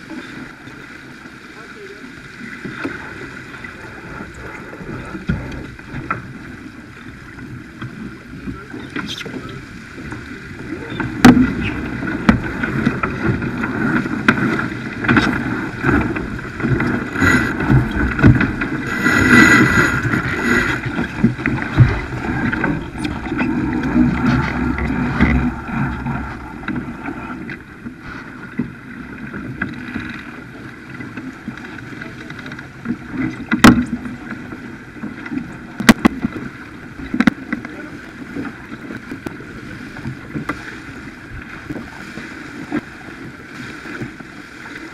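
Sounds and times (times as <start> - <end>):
water rushing along hull: 0.0 - 44.9
wind buffeting microphone: 2.6 - 44.9.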